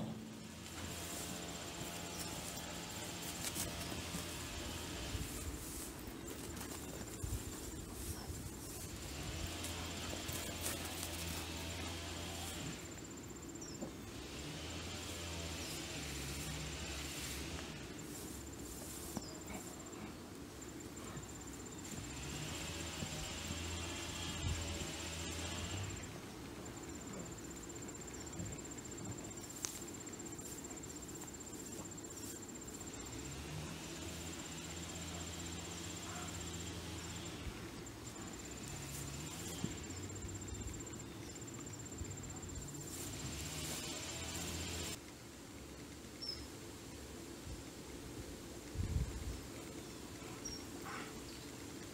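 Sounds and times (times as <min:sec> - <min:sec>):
dogs digging in dry dirt: 0:00.0 - 0:45.0, 0:49.4 - 0:51.9.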